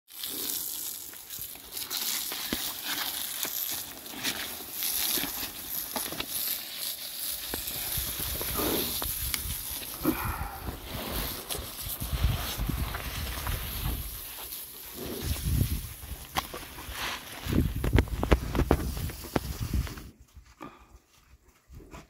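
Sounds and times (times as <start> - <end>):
hose spraying water: 0.1 - 20.1.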